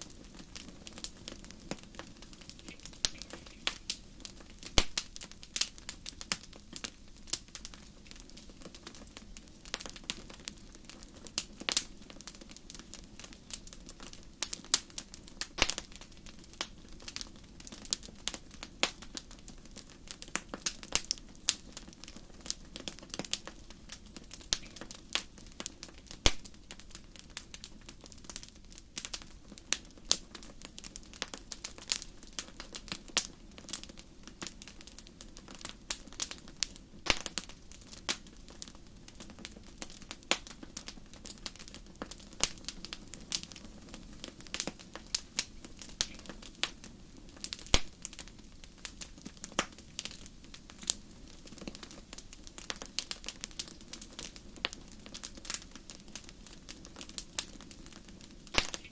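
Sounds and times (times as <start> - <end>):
fire crackling and popping: 0.0 - 58.9.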